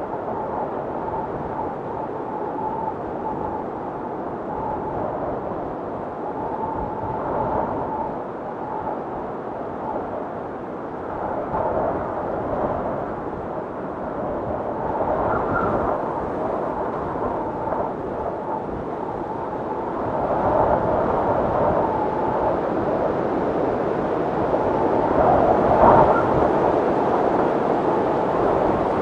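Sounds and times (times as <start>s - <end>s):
faint wind whistling: 0.0s - 29.0s
gusting wind: 0.0s - 29.0s.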